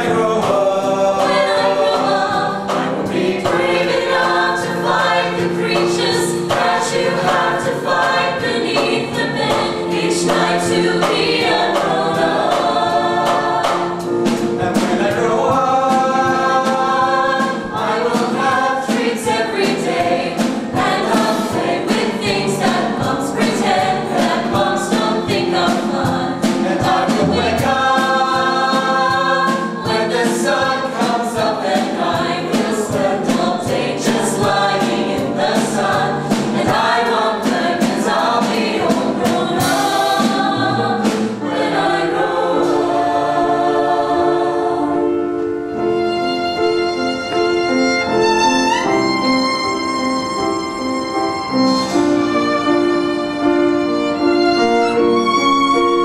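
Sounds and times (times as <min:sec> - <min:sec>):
accompaniment with steady beat: 0:00.0 - 0:44.9
mixed choir singing: 0:00.0 - 0:56.0.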